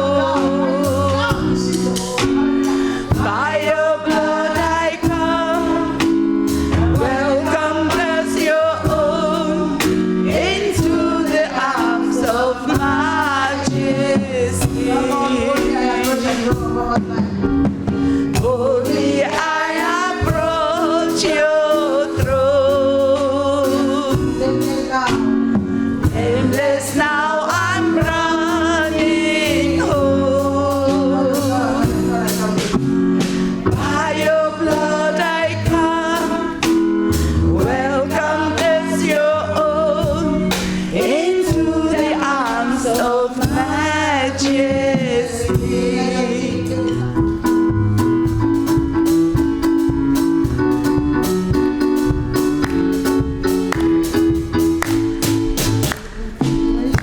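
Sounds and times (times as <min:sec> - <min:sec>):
held chords: 0:00.0 - 0:57.0
person singing gospel: 0:00.0 - 0:57.0
drum beat: 0:00.5 - 0:06.2, 0:06.8 - 0:21.4, 0:23.8 - 0:36.9, 0:40.0 - 0:57.0.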